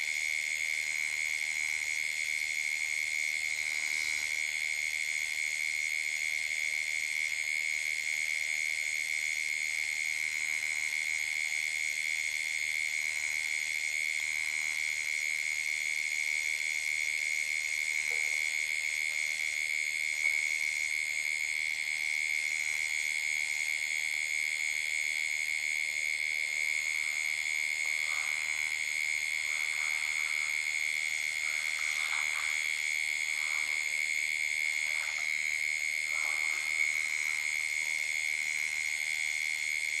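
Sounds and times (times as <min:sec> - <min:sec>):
insects and frogs trilling: 0:00.0 - 0:40.0.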